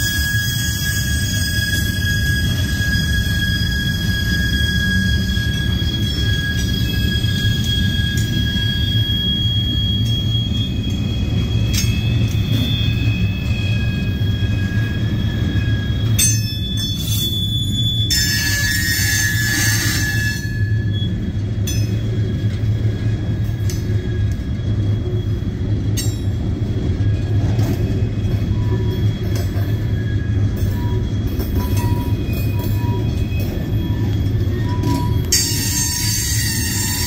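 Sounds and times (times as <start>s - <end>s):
high wheel squeal: 0.0s - 37.0s
train wheels rumbling on rail: 0.0s - 37.0s.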